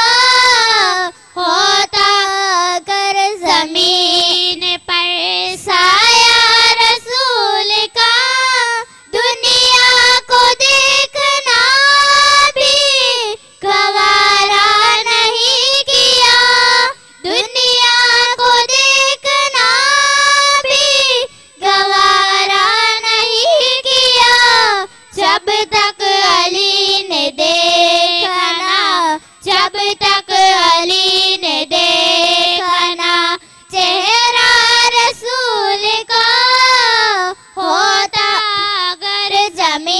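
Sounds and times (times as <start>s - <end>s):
girls singing unaccompanied: 0.0s - 39.9s.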